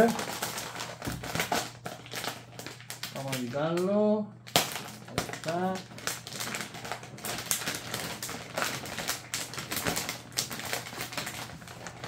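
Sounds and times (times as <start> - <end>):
box packaging clicks and crinkles: 0.0 - 3.9, 4.5 - 12.0.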